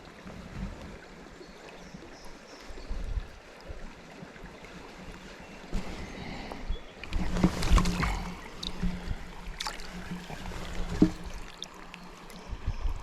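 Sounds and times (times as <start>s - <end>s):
stream water splashing: 0.0s - 13.0s.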